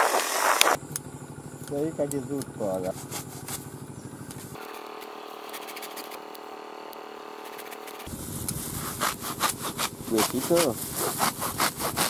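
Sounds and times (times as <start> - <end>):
engine running steadily: 0.5 - 12.0
scissors snipping grass: 1.6 - 12.0.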